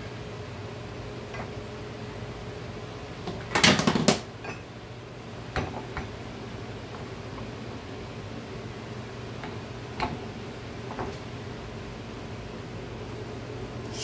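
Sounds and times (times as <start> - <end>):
steady low hum: 0.0 - 3.6, 4.2 - 14.0.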